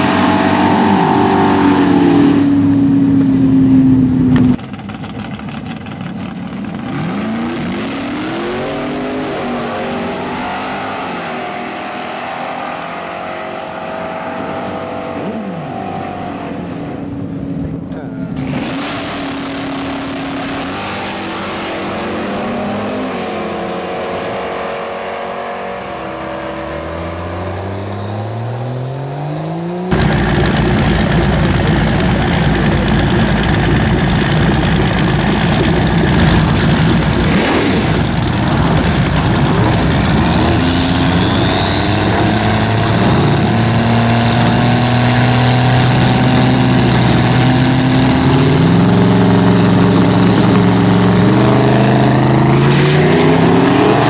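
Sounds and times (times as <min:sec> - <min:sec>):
racing car engine revving: 0:00.0 - 0:17.0, 0:17.9 - 0:54.0.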